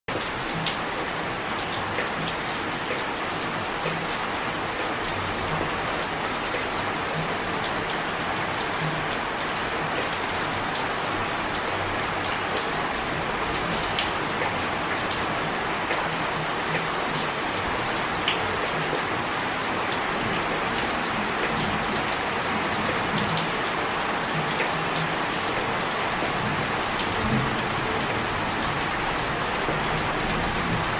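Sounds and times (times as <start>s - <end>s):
rain hissing on pond: 0.2s - 30.9s.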